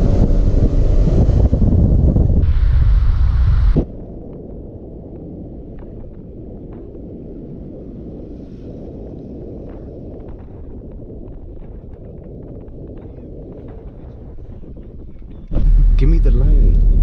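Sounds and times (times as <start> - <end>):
car wind and road noise: 0.0 - 17.0.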